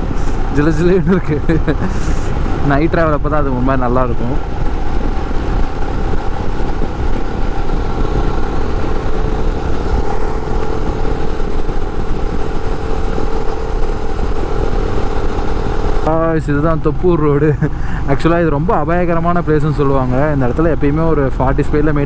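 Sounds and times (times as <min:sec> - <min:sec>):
motorcycle engine cruising: 0:00.0 - 0:22.0
road noise: 0:00.0 - 0:22.0.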